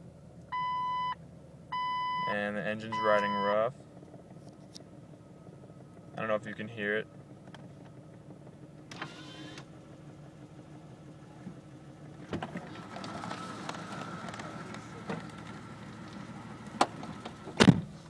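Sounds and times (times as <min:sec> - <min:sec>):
car engine idling rough: 0:00.0 - 0:18.0.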